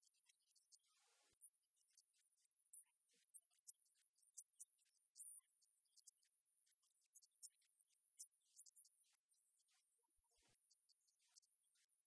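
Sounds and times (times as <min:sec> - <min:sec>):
faint high-pitched ticks: 0:00.0 - 0:12.0.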